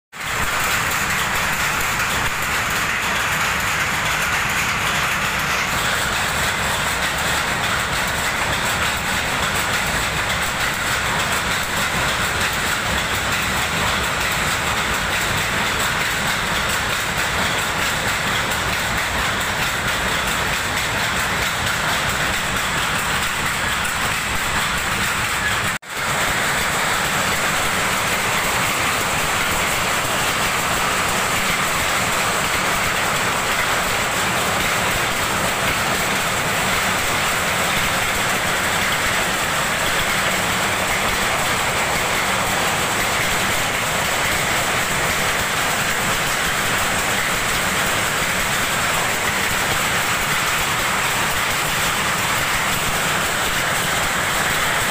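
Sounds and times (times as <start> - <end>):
power loom clattering: 0.1 - 54.9.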